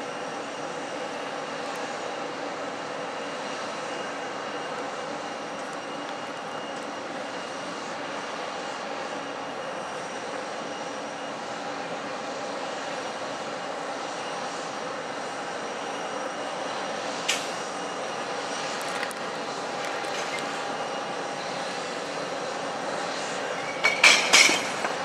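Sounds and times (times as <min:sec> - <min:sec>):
airliner engines running: 0:00.0 - 0:25.0.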